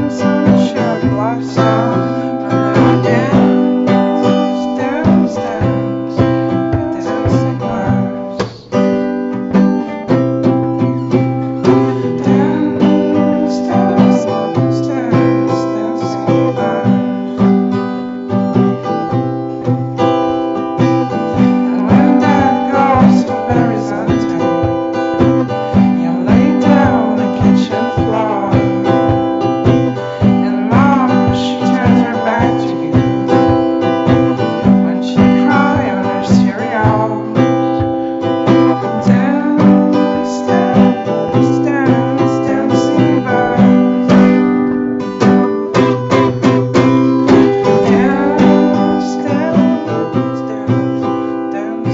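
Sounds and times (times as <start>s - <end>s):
strummed acoustic guitar chords: 0.0s - 51.9s.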